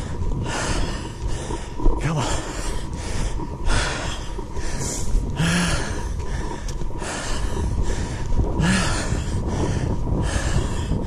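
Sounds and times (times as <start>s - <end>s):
person breathing heavily: 0.0s - 11.0s.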